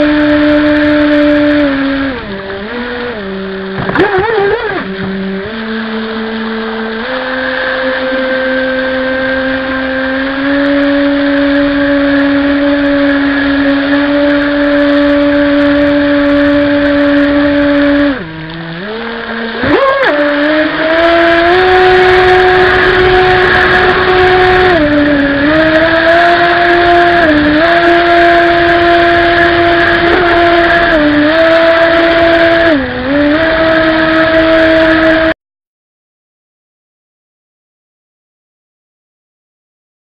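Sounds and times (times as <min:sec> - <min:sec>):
jet boat motor whining: 0:00.0 - 0:35.4.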